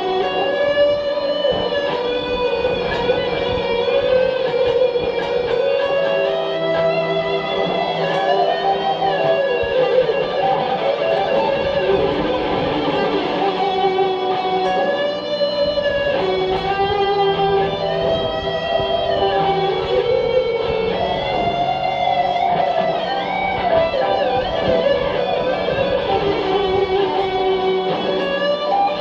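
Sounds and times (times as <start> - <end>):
electric guitar lead: 0.0 - 29.0.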